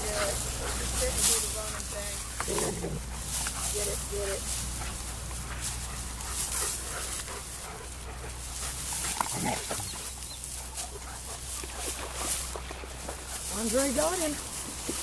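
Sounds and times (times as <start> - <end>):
dogs rustling in grass: 0.0 - 15.0
paws thudding: 0.0 - 15.0.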